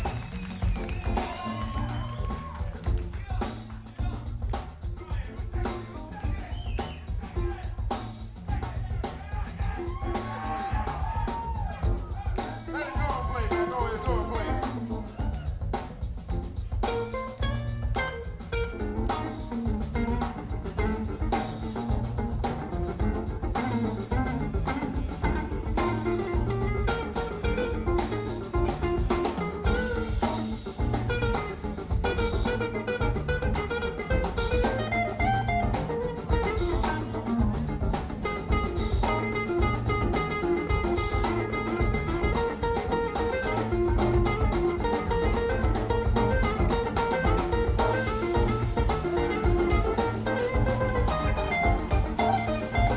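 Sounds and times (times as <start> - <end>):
instrumental jazz-blues music: 0.0 - 52.9.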